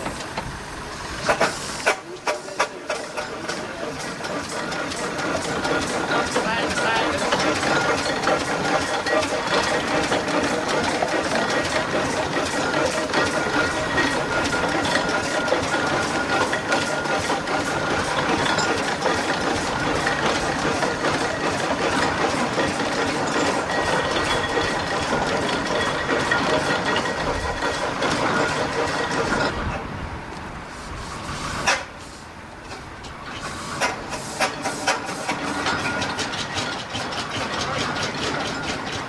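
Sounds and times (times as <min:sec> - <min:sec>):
steam engine mechanical clatter: 0:00.0 - 0:39.0.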